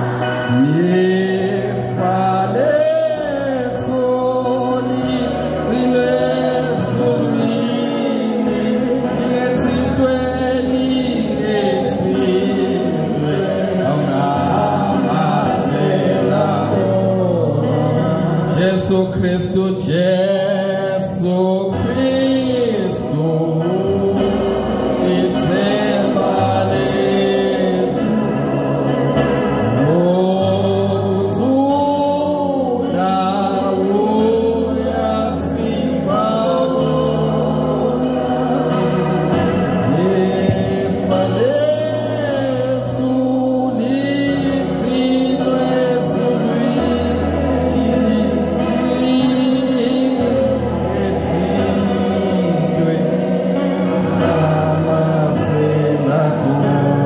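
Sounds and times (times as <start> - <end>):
congregation singing a hymn: 0.0 - 57.0.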